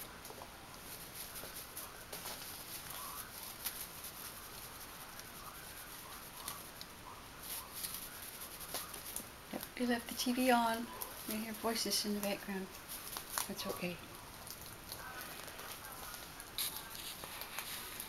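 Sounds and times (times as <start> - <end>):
kittens scratching a basket: 0.0 - 18.0
television voices: 0.0 - 18.0.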